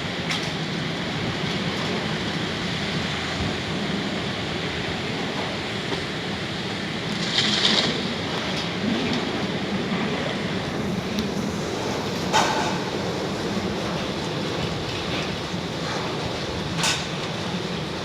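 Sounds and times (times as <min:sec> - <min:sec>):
wind blowing hard: 0:00.0 - 0:18.0.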